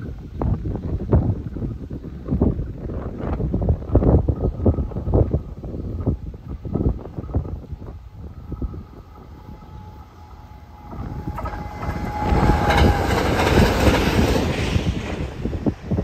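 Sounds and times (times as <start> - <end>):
wind buffeting microphone: 0.0 - 16.0
electric train passing: 2.7 - 16.0.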